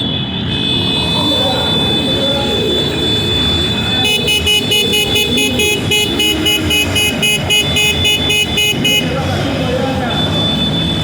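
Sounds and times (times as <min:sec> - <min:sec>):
rapid electronic alarm beeping: 0:00.8 - 0:09.1, 0:10.0 - 0:11.0.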